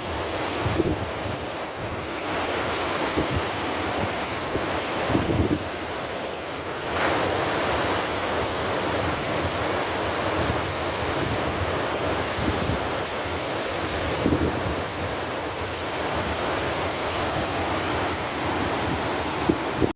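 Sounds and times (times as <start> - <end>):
ocean surf washing in: 0.0 - 19.9
wind buffeting microphone: 0.0 - 19.9.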